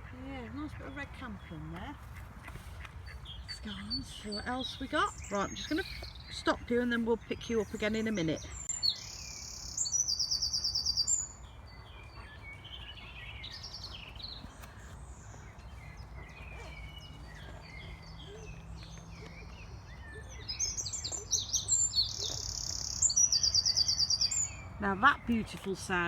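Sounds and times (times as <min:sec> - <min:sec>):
other birds calling: 0:00.0 - 0:26.0
wren singing rapid trills: 0:03.1 - 0:14.5, 0:15.1 - 0:26.0.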